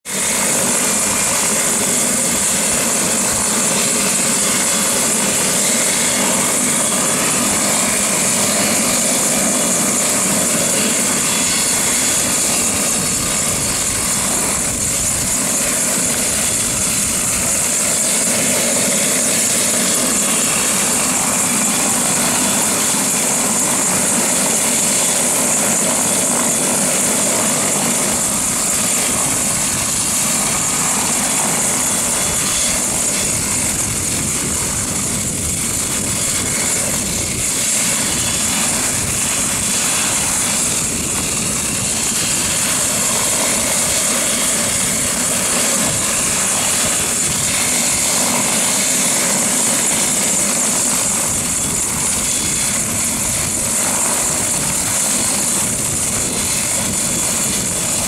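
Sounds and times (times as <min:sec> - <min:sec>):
helicopter rotor noise: 0:00.0 - 0:58.0
helicopter turbine whine: 0:00.0 - 0:58.0.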